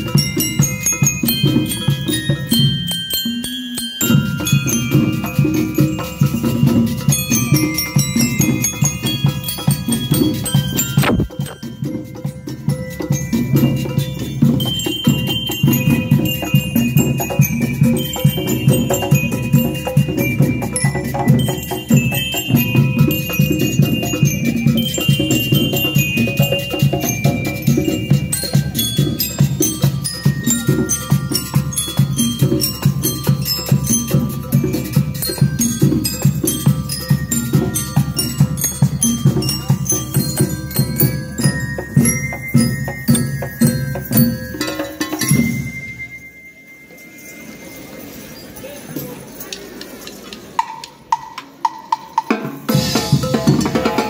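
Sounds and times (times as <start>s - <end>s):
bell lyres playing tune: 0.0s - 54.0s
snare and bass drums beat: 4.5s - 45.5s, 51.1s - 54.0s.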